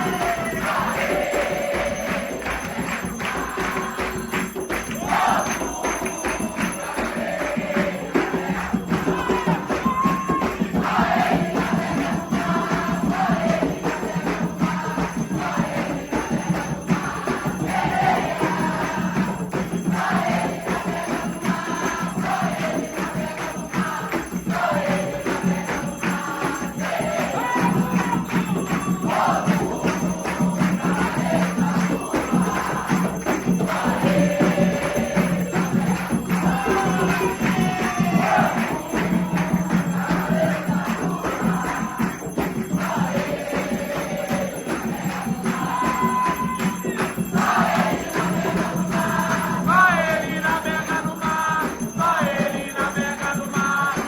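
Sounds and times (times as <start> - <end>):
fast percussion: 0.0 - 54.0
group of voices chanting: 0.0 - 54.0
jingling bells: 0.0 - 54.0.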